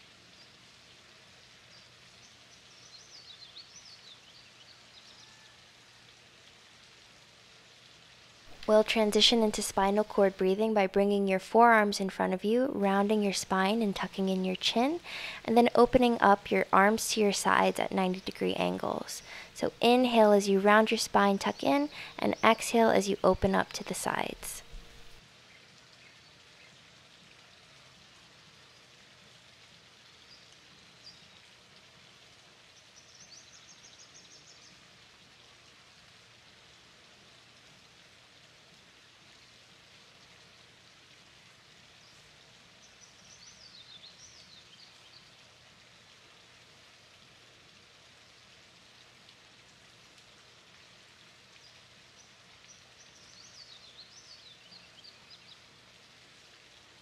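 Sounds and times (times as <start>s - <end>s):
faint outdoor hiss: 0.0s - 57.0s.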